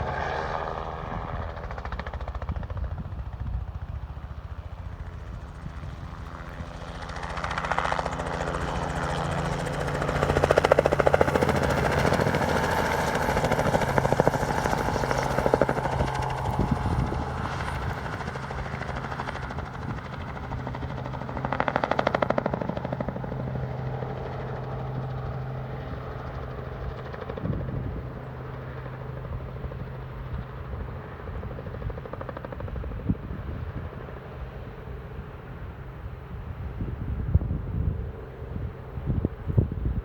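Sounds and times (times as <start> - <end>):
engine running with even pulsing: 0.0 - 40.0.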